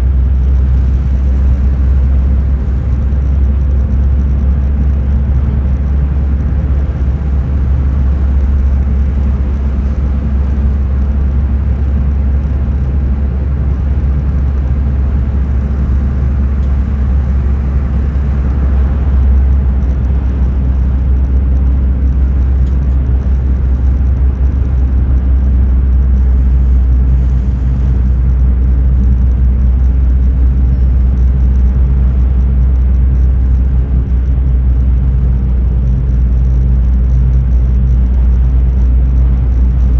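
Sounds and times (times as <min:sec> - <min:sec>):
car interior rumble while driving: 0:00.0 - 0:39.9.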